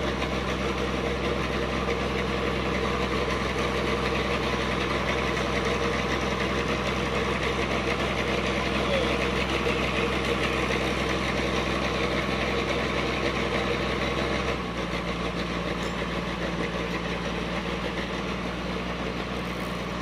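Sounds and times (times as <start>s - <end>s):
dredge engine running: 0.0s - 20.0s.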